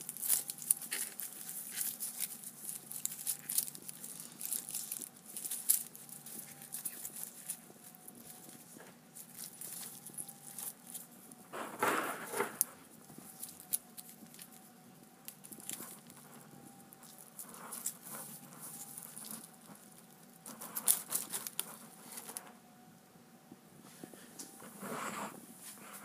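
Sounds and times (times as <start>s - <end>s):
aluminium foil crinkling: 0.0s - 22.6s.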